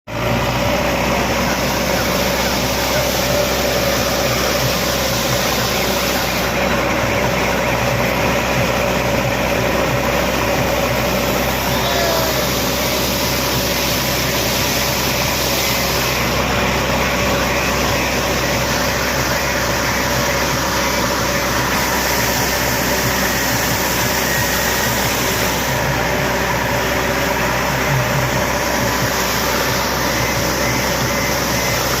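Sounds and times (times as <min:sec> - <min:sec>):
diesel engine droning: 0:00.1 - 0:32.0.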